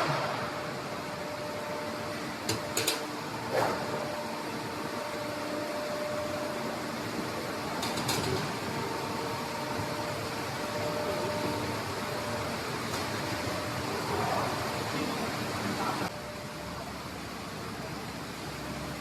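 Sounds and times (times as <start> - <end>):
machine humming with whine: 0.0 - 19.0.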